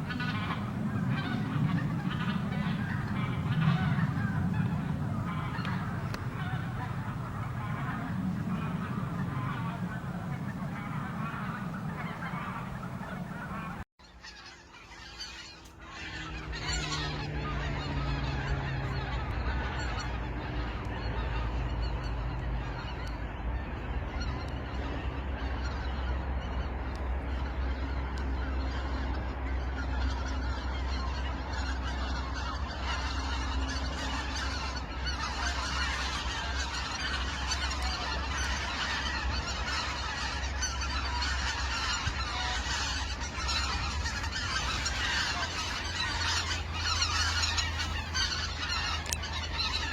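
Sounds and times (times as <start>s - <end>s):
geese honking: 0.0s - 49.9s
low rumble: 0.0s - 49.9s.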